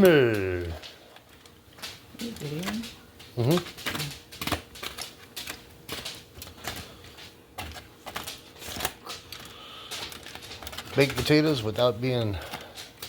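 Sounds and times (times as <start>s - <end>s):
clicks and clatters at a grill: 0.0s - 13.0s.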